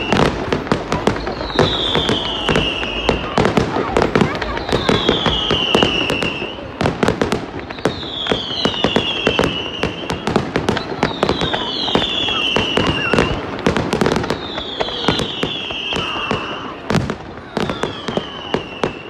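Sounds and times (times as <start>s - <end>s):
fireworks bangs and crackles: 0.0s - 19.0s
fireworks falling whistle: 0.0s - 19.0s.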